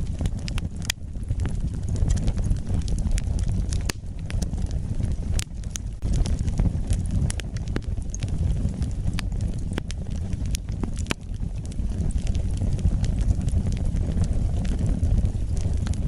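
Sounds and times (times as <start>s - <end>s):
crackles and pops of burning logs: 0.0s - 16.0s
rumble of flames: 0.0s - 16.0s.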